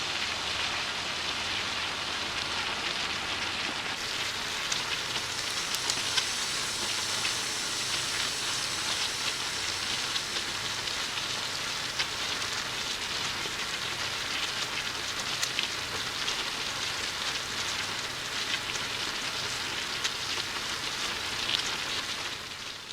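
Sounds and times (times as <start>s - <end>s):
food frying in hot oil: 0.0s - 22.9s.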